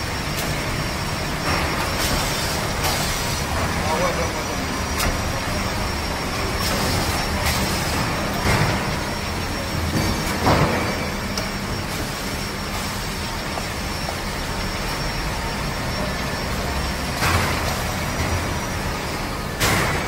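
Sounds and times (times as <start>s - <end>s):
machine hum and hiss: 0.0s - 20.0s.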